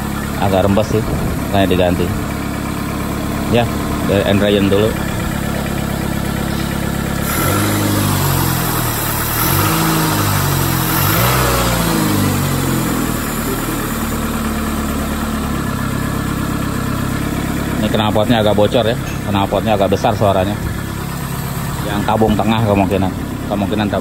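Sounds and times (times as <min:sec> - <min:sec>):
car engine revving and idling: 0:00.0 - 0:24.0
loud exhaust: 0:00.0 - 0:24.0.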